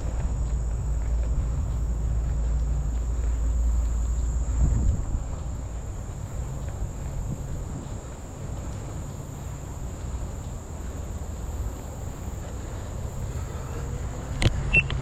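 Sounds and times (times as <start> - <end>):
insects trilling: 0.0 - 15.0
low rumble: 0.0 - 15.0.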